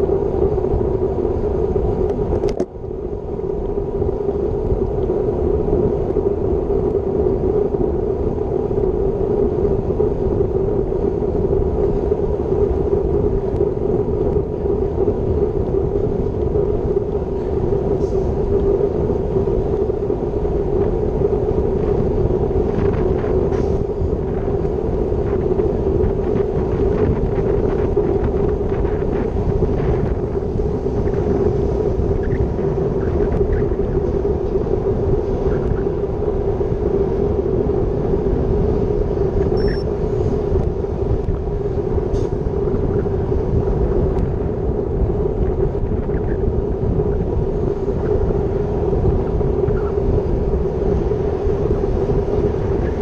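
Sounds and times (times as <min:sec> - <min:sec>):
wind rush on microphone: 0:00.0 - 0:53.0.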